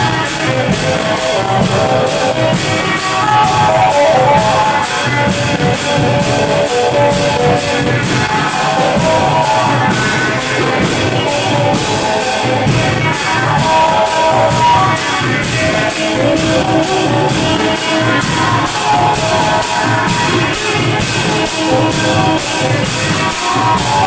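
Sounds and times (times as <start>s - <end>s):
drums and percussion beat: 0.0s - 24.0s.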